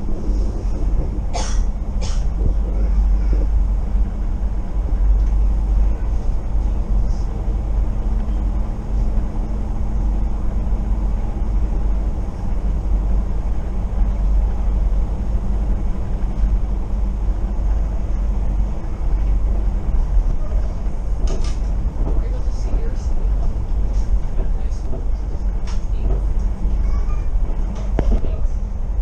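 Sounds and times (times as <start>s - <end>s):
low hum: 0.0s - 29.0s
train wheels rumbling on rail: 0.0s - 29.0s.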